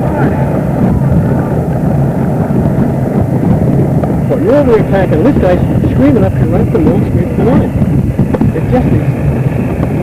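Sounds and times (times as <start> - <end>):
boat motor running: 0.0 - 10.0
wind buffeting microphone: 0.0 - 10.0.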